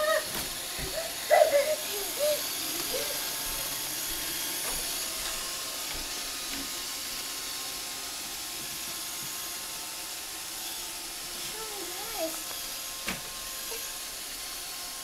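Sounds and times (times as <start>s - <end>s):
robotic vacuum running: 0.0s - 15.0s.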